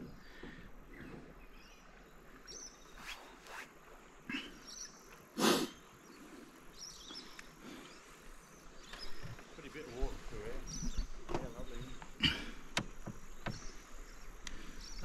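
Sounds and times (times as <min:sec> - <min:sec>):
paddle splashes and drips: 0:00.0 - 0:15.0.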